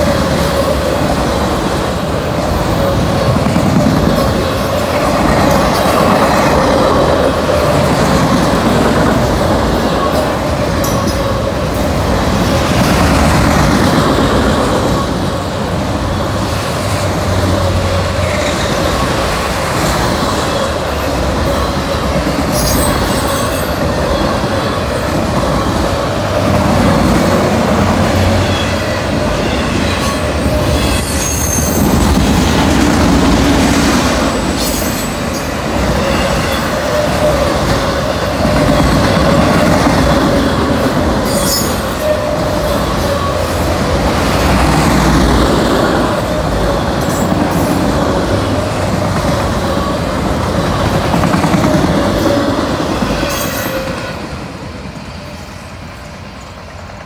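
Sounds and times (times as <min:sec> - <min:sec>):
train wheels rushing on rail: 0:00.0 - 0:57.0.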